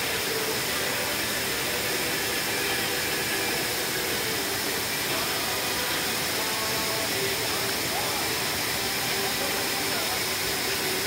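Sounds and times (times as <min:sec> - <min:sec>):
waterfall rushing hiss: 0:00.0 - 0:11.0.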